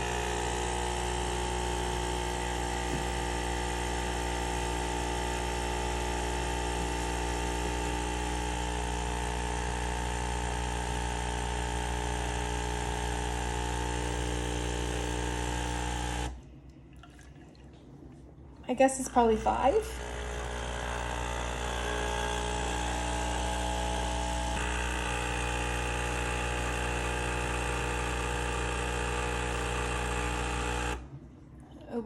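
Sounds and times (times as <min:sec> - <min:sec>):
espresso machine pump running: 0:00.0 - 0:16.4, 0:19.0 - 0:31.1.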